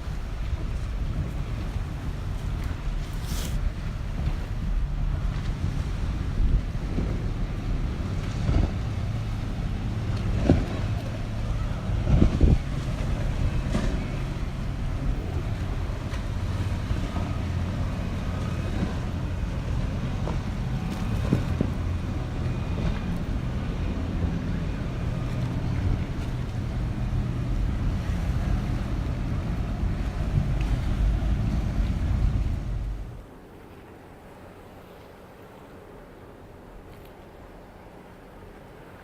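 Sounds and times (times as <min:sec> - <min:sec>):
wind buffeting microphone: 0:00.0 - 0:33.3
low engine drone: 0:00.0 - 0:33.5.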